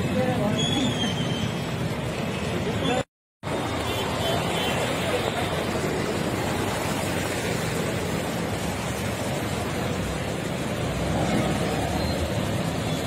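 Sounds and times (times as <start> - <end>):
floodwater rushing down street: 0.0 - 13.0.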